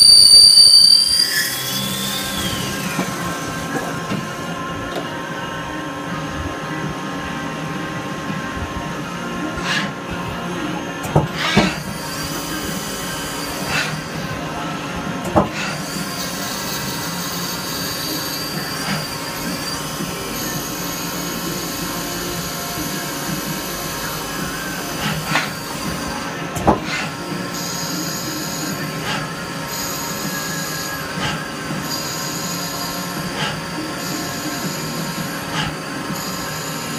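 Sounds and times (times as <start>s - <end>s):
high whining tones: 0.0s - 36.9s
lathe mechanical hum: 0.0s - 36.9s.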